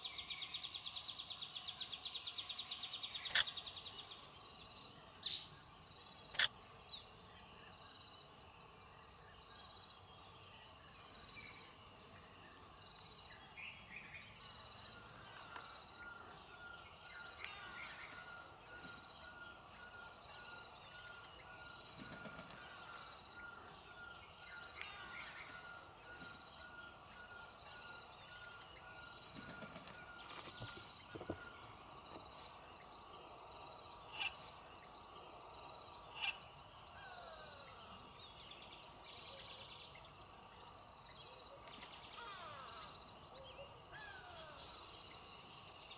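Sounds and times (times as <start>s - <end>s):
high insect hiss: 2.3s - 45.9s.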